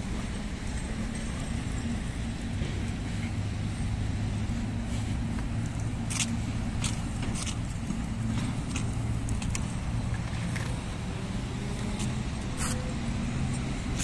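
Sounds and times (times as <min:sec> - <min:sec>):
low hum of traffic: 0:00.0 - 0:14.0.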